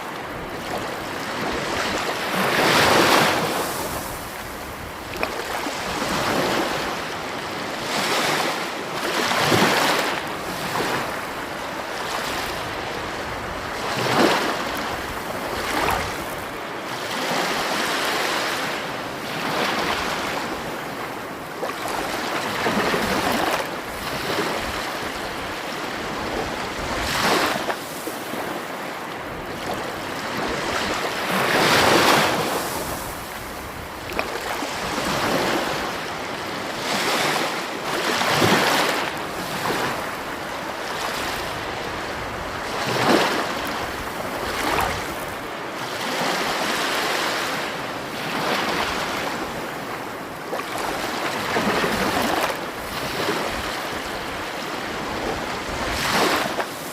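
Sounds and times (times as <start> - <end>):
sea waves washing onto shore: 0.0 - 56.9.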